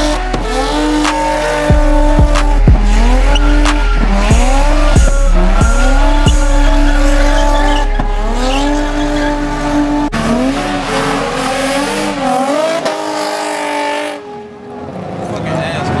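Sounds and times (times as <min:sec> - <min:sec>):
tyres squealing: 0:00.0 - 0:13.4
car engine revving hard: 0:00.0 - 0:16.0.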